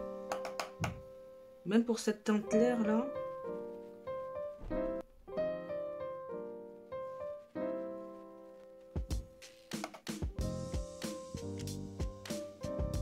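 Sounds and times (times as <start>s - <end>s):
piano chords: 0.0s - 1.6s, 2.4s - 9.6s, 10.2s - 13.0s.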